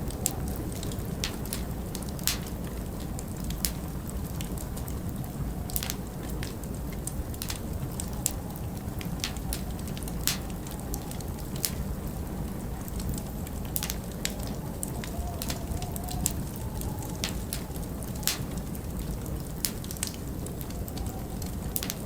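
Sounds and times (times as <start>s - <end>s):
low rumble of wind: 0.0s - 22.0s
wood fire crackling and popping: 0.0s - 22.0s.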